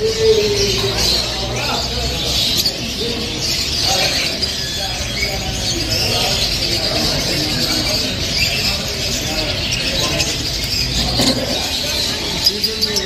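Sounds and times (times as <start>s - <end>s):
many birds chirping: 0.0s - 13.0s
murmur of voices: 0.0s - 13.0s.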